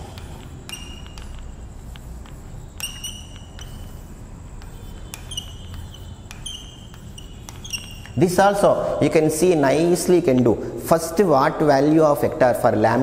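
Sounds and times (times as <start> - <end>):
chalk tapping and squeaking: 0.0 - 13.0.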